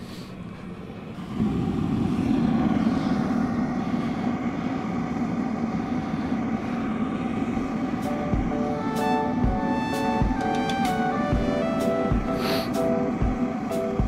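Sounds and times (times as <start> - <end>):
oil burner roaring: 0.0 - 14.0.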